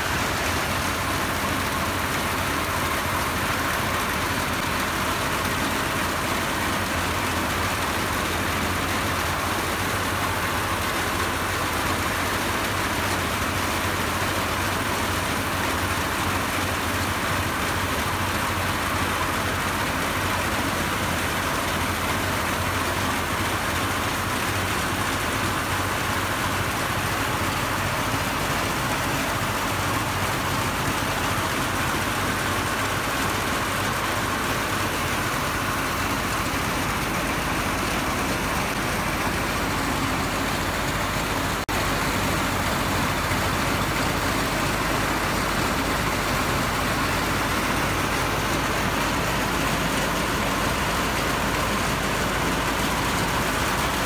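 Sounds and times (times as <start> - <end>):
low engine hum: 0.0 - 54.0.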